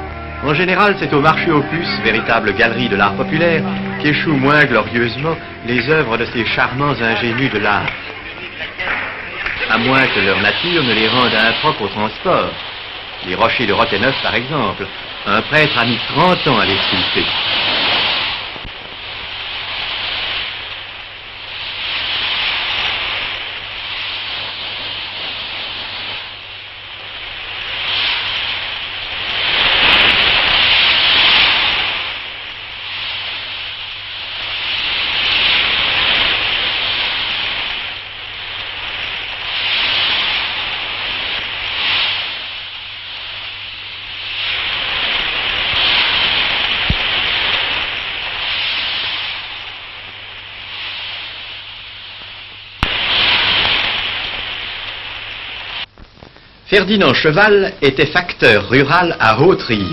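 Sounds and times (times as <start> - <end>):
surf breaking against rocks: 0.0 - 59.9.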